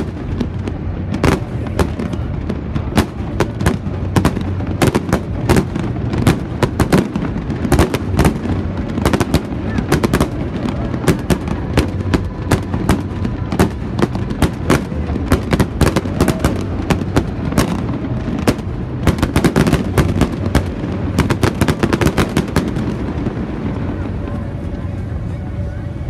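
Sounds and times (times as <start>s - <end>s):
fireworks bangs: 0.0s - 25.2s
steady low rumble: 0.0s - 26.0s.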